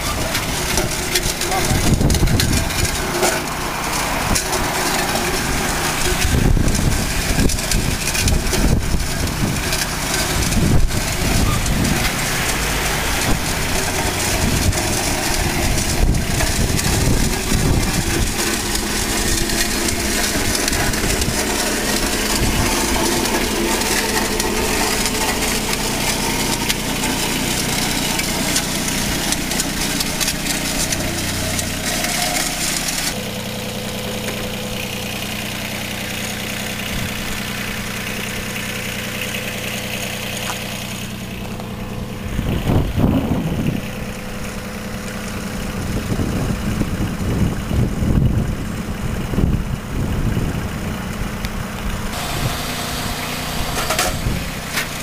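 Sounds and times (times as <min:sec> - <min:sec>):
edger grinding along kerb: 0:00.0 - 0:55.0
utility vehicle engine running: 0:00.0 - 0:55.0.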